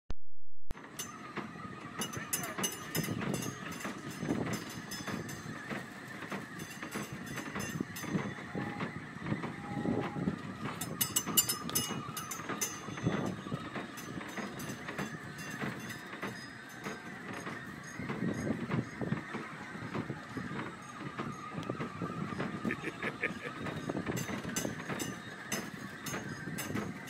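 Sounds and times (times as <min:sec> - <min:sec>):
clicks and rattles: 0:00.7 - 0:09.6, 0:10.4 - 0:27.0
ride mechanical rumble: 0:00.7 - 0:27.0.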